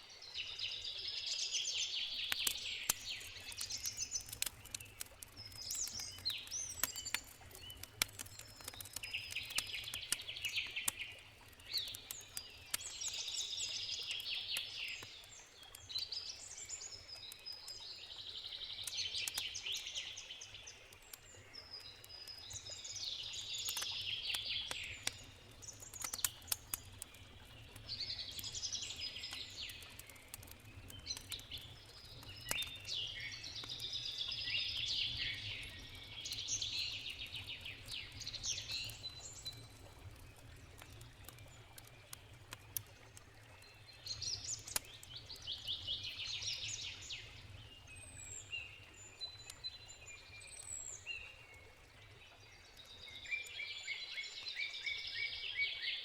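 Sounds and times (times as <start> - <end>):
campfire crackling and popping: 1.2 - 53.6.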